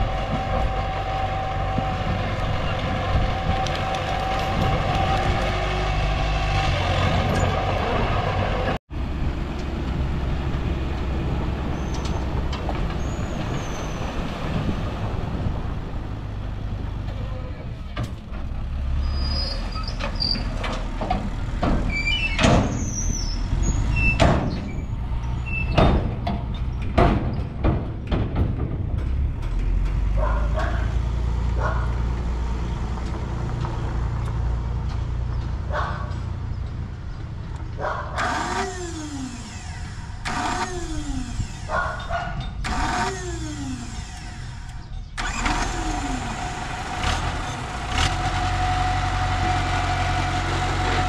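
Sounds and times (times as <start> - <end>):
bulldozer engine running: 0.0 - 51.0.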